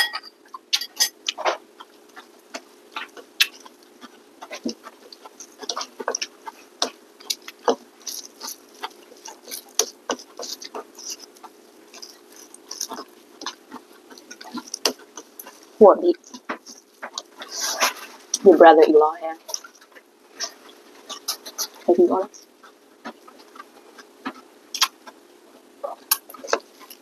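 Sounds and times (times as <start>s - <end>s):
fingers mixing rice on plates: 0.0s - 27.0s
chewing and mouth smacks: 0.4s - 18.4s, 19.4s - 25.2s, 25.9s - 27.0s.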